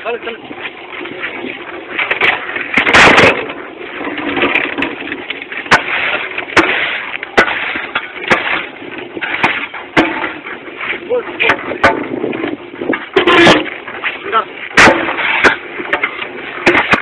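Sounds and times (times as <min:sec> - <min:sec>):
rattling clatter of stones: 0:00.0 - 0:17.0
sharp metal knocks: 0:02.0 - 0:10.6, 0:11.4 - 0:17.0.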